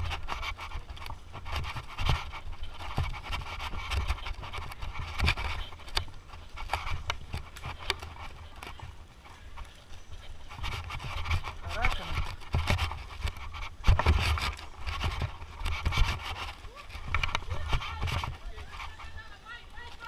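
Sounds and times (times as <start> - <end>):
bike rattling over dirt trail: 0.0 - 20.0.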